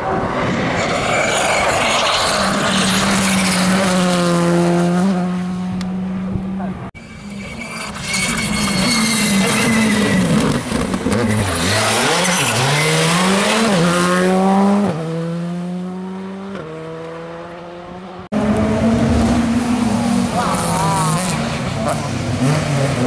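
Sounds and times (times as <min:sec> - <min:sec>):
rally car engine at full throttle: 0:00.0 - 0:23.0
second rally car engine: 0:00.8 - 0:23.0.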